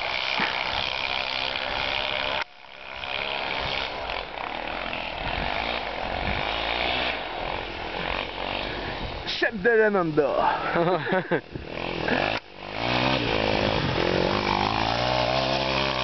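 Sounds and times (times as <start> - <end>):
quad engine revving: 0.0 - 9.2, 10.4 - 16.0.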